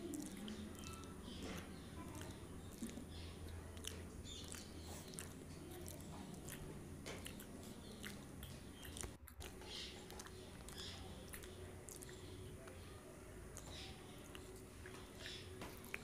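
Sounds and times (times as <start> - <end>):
crunchy chewing: 0.0 - 16.0
mouth clicks: 0.0 - 16.0.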